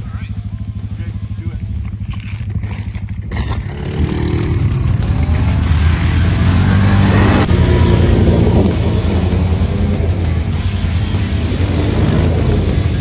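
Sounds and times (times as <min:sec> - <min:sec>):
quad bike engines revving: 0:00.0 - 0:13.0.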